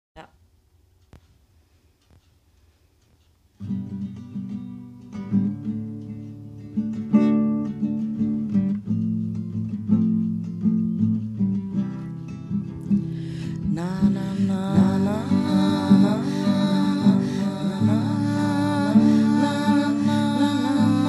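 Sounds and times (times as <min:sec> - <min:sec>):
acoustic guitar chords: 0:03.6 - 0:21.0.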